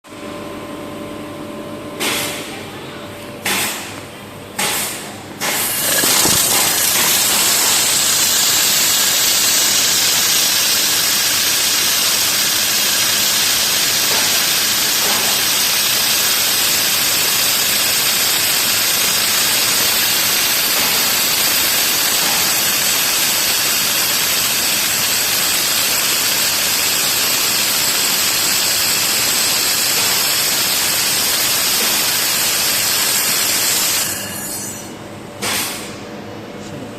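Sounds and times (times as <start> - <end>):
laser welder hissing: 4.6 - 34.6.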